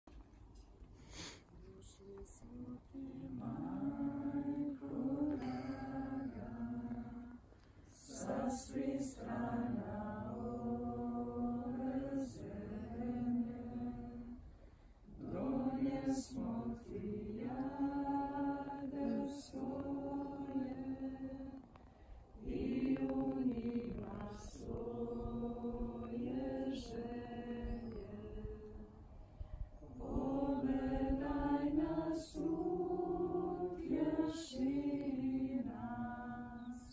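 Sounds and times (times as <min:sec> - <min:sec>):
group singing a devotional chant: 0:02.5 - 0:21.7, 0:22.4 - 0:29.0, 0:29.8 - 0:36.9.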